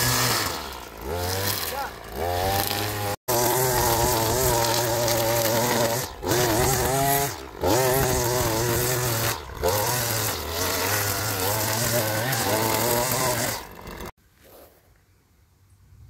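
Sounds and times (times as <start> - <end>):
string trimmer engine cutting grass: 0.0 - 14.2.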